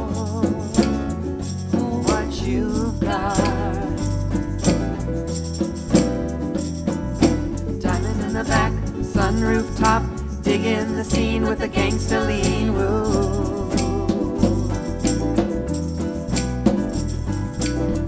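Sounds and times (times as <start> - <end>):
bass: 0.0 - 18.0
percussion strokes: 0.0 - 18.0.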